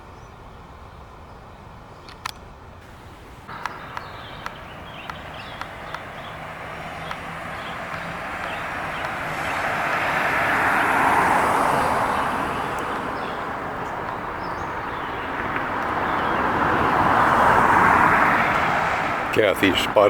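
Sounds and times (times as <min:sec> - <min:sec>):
vehicle tyre noise passing: 0:02.8 - 0:20.0.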